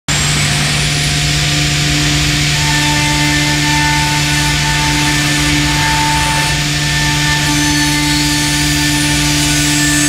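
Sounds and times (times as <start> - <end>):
cnc router running: 0.1 - 10.0.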